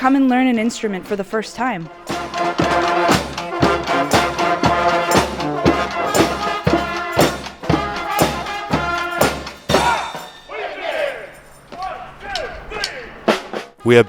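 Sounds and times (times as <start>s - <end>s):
brass band horns playing chords: 1.8s - 14.0s
drum beat: 2.0s - 14.0s.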